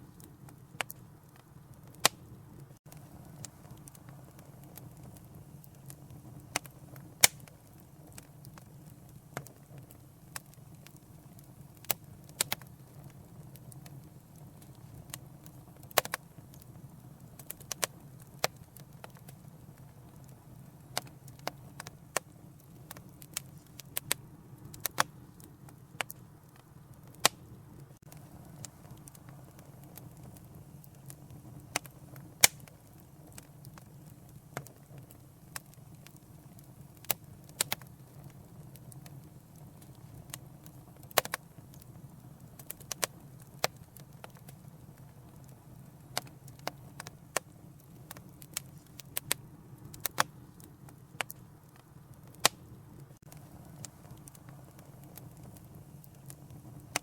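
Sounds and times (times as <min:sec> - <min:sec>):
fire flames rumbling: 0:00.0 - 0:57.0
wood fire crackling and popping: 0:00.0 - 0:57.0.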